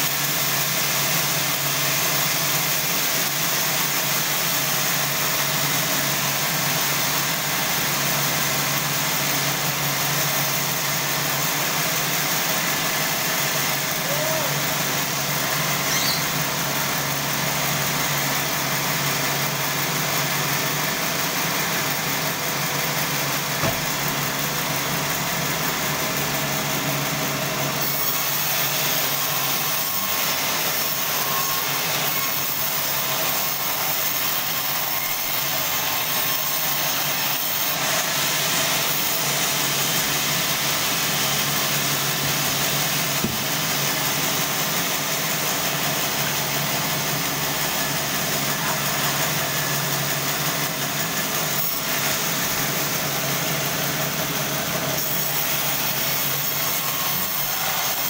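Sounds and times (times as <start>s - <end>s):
band saw running: 0.0s - 58.0s.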